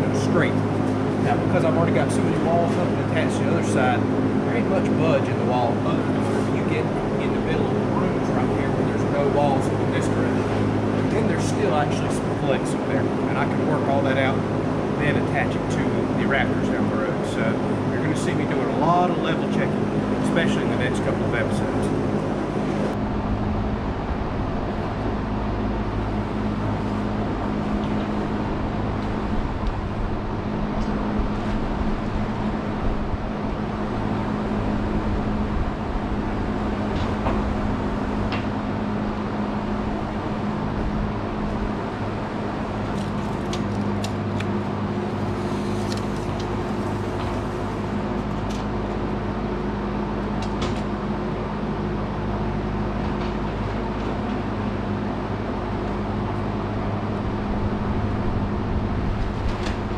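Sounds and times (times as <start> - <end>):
machine drone with low hum: 0.0 - 59.9.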